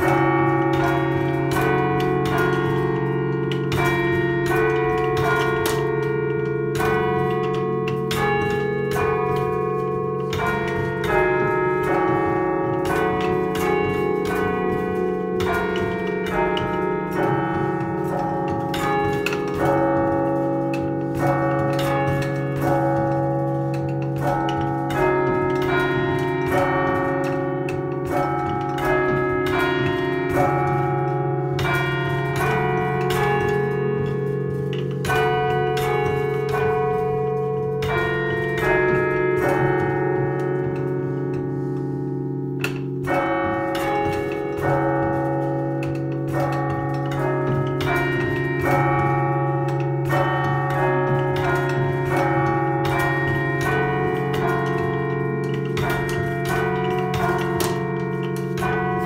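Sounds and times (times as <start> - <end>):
church bells chiming a tune: 0.0 - 59.0.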